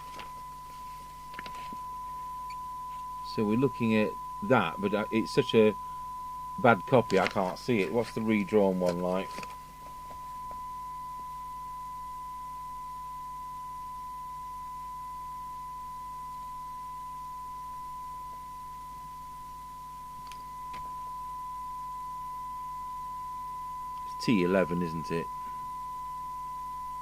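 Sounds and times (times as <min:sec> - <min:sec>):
radio test tone: 0:00.0 - 0:18.4, 0:19.3 - 0:27.0.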